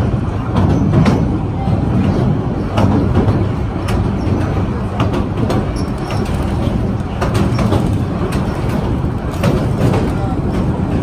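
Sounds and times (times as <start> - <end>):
train rumble inside carriage: 0.0 - 11.0
wheels and carriage rattling: 0.0 - 11.0.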